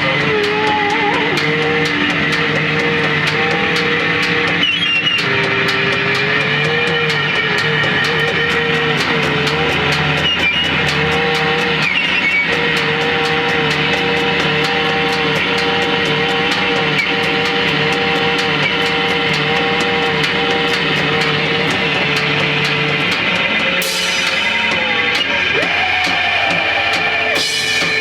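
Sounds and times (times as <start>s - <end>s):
distorted noise music drone: 0.0s - 28.0s.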